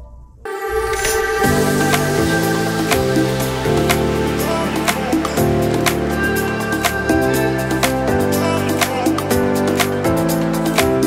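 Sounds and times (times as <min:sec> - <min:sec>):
electronic music with beat: 0:00.5 - 0:11.0.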